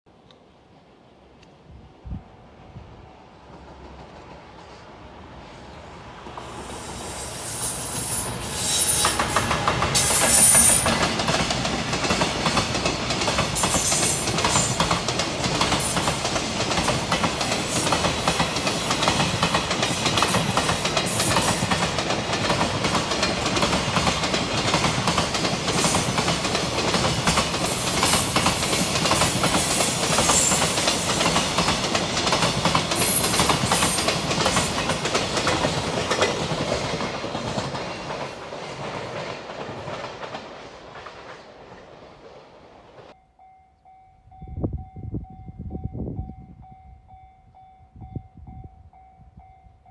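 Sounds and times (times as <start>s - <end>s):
electric locomotive passing: 0.3s - 49.9s.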